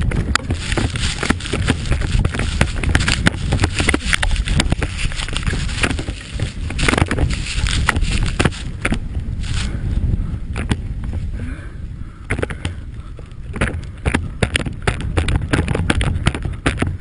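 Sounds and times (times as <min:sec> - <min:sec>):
snowmobile engine rumble: 0:00.0 - 0:17.0
wind buffeting microphone: 0:00.0 - 0:17.0.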